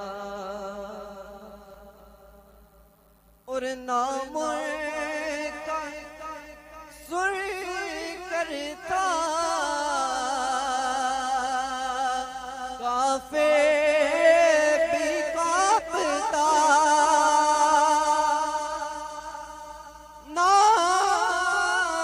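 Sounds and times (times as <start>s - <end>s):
man singing: 3.5s - 22.0s.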